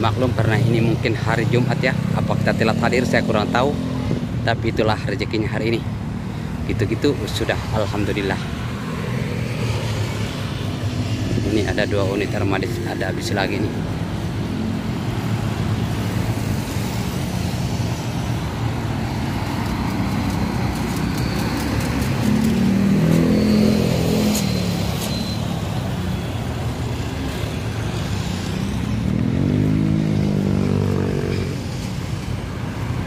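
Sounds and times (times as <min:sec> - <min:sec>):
bus engines rumbling: 0:00.0 - 0:33.0.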